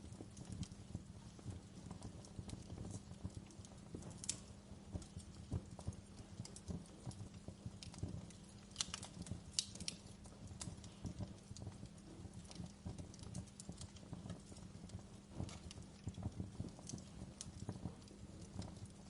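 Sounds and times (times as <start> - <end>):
burning logs rumbling: 0.0 - 19.0
fire pops and snaps: 0.0 - 19.0.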